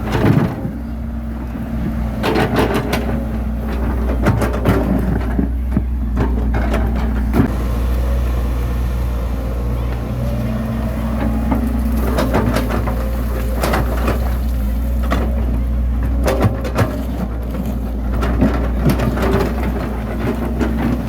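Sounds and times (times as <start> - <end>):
bulldozer diesel engine running: 0.0 - 21.0
clanks and crunching of soil: 0.0 - 21.0.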